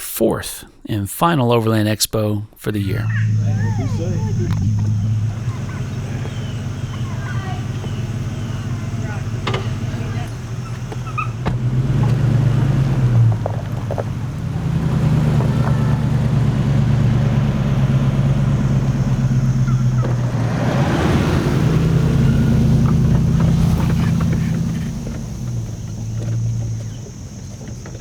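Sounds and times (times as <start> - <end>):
vehicle engine running: 2.7 - 28.0
road or wind rush: 3.0 - 28.0.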